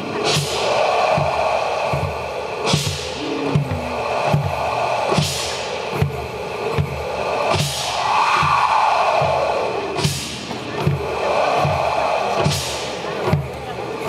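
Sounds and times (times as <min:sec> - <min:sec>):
loud hissing swells: 0:00.0 - 0:13.2
deep drum beat: 0:00.3 - 0:13.6.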